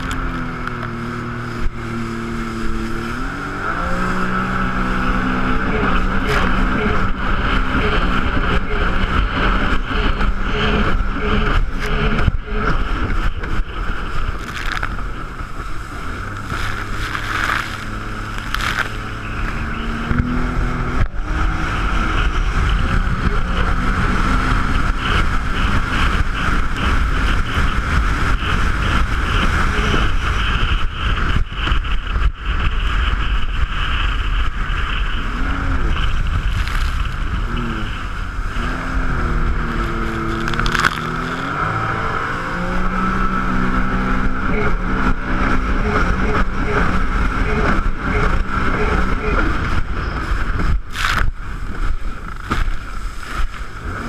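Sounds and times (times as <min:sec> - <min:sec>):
jet ski engine running: 0:00.0 - 0:54.0
rushing water noise: 0:00.0 - 0:54.0.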